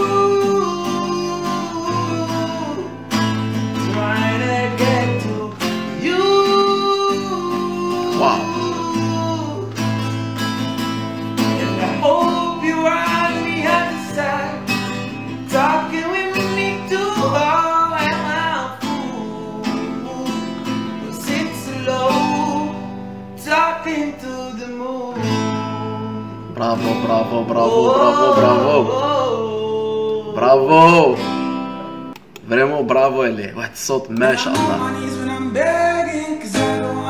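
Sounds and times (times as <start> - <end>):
man singing: 0.0 - 31.4, 33.9 - 37.0
strummed acoustic guitar: 0.0 - 32.4, 34.1 - 37.0.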